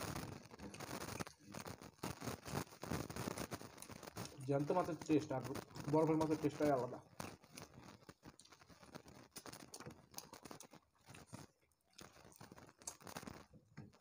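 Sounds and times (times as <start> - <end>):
fingers mixing rice crackles: 0.0 - 14.0
people chewing with mouth clicks: 0.0 - 14.0.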